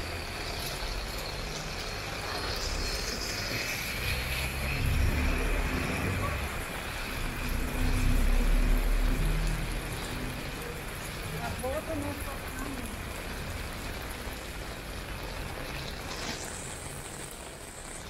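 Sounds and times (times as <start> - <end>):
rain hissing: 0.0 - 18.0
traffic engine rumble: 0.0 - 18.0.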